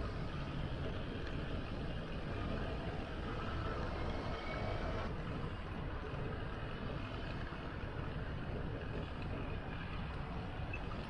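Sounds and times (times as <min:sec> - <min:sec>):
bicycle road noise: 0:00.0 - 0:11.0
rumbling wind: 0:00.0 - 0:11.0.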